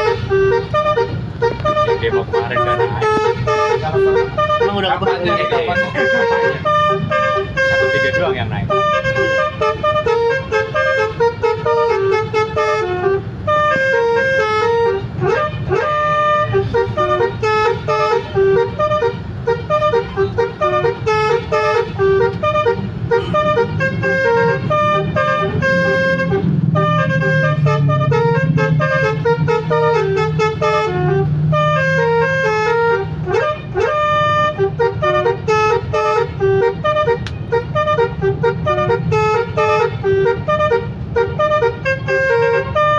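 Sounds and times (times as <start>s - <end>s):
multi-tone bus horn tune: 0.0s - 42.9s.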